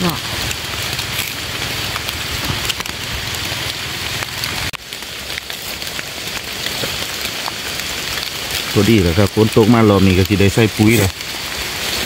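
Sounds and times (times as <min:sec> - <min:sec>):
rain falling on foliage: 0:00.0 - 0:12.0.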